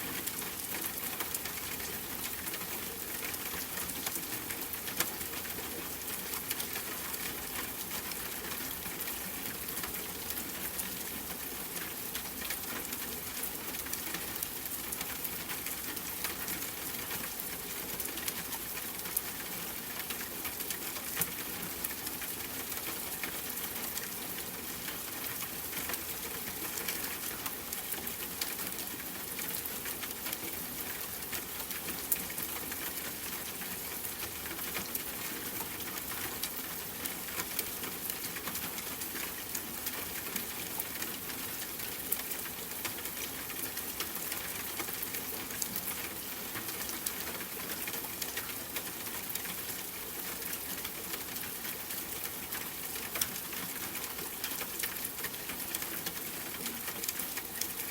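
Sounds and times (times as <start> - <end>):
rain pattering: 0.0 - 57.9.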